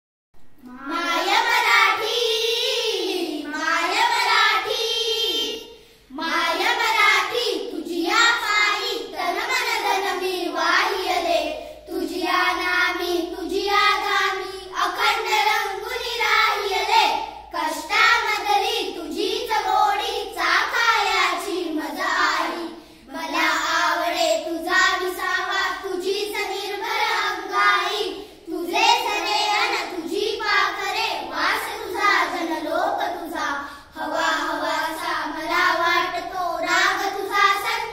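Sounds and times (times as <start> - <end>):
children singing in unison: 0.6 - 37.9.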